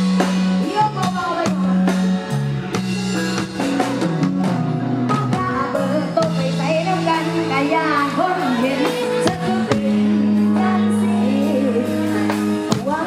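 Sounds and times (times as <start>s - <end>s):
bass line: 0.0s - 13.0s
drum-kit beat: 0.0s - 13.0s
live band playing pop music: 0.0s - 13.0s.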